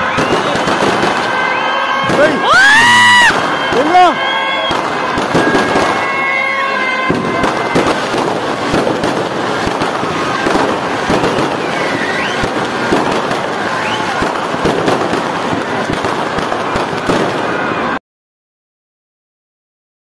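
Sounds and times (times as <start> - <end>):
firework whistles: 0.0 - 18.0
fireworks bangs and crackling: 0.0 - 18.0.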